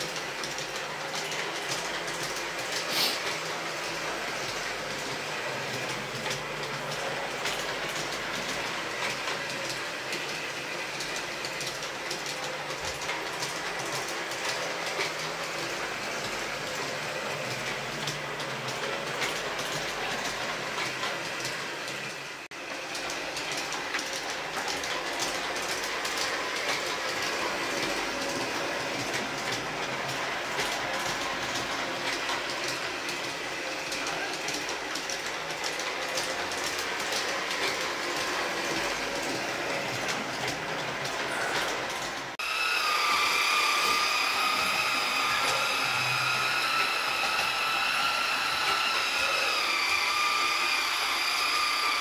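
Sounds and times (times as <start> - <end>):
wheels clicking over rail joints: 0.0 - 42.4
model train motor whirring: 0.0 - 52.0.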